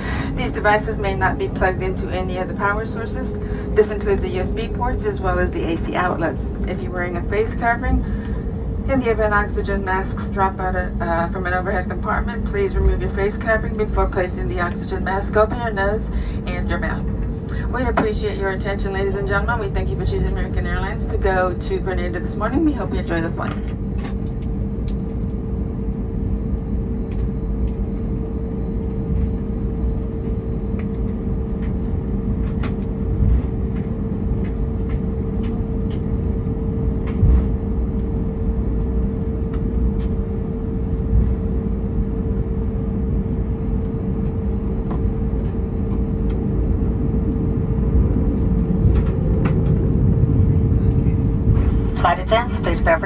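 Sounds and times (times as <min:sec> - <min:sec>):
airliner taxiing rumble: 0:00.0 - 0:53.0.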